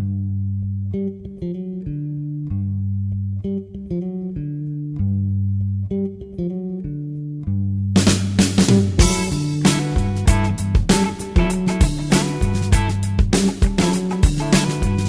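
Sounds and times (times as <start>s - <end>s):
bass guitar riff: 0.0s - 15.0s.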